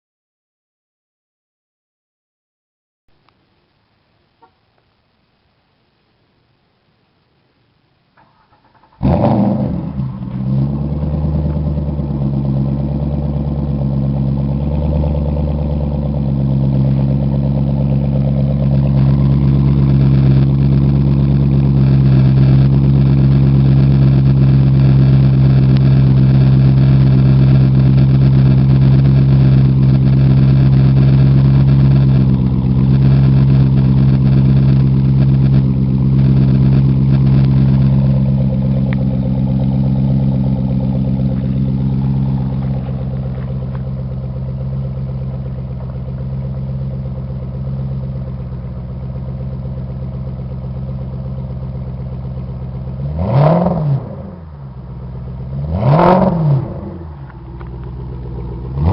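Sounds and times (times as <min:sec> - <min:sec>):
car engine starting and idling: 0:07.5 - 0:58.9.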